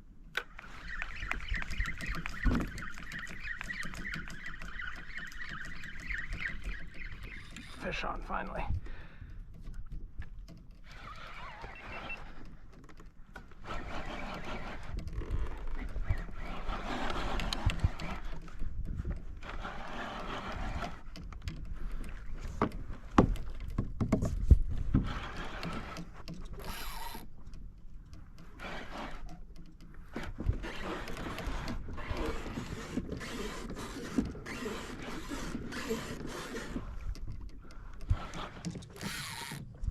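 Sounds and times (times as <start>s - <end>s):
wind rumbling on microphone: 0.0s - 12.7s, 13.6s - 27.2s, 30.0s - 39.9s
water noise: 0.0s - 39.9s.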